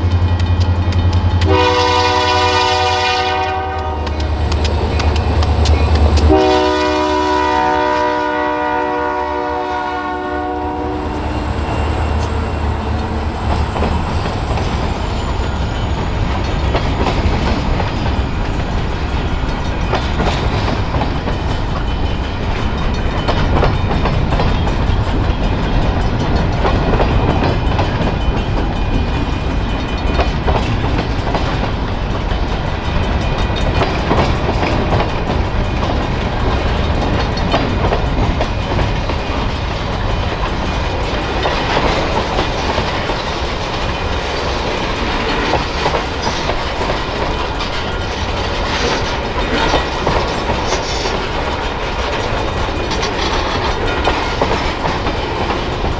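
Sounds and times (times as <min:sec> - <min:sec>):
freight train rumbling past: 0:00.0 - 0:55.9
wheels clacking over rail joints: 0:00.0 - 0:55.9.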